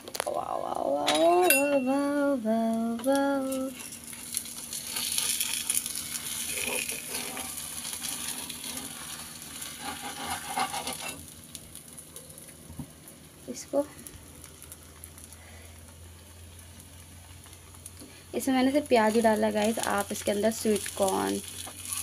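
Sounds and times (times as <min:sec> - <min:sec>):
batter sizzling on griddle: 0:03.2 - 0:22.0.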